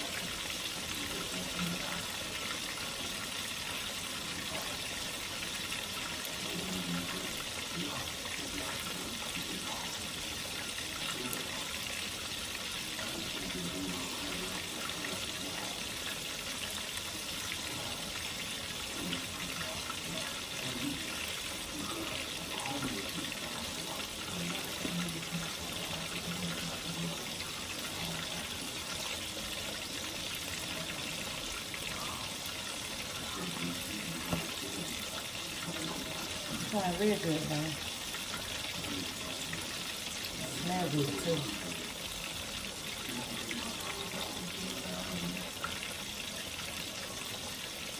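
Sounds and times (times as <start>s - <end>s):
fish frying in hot oil: 0.0s - 47.9s.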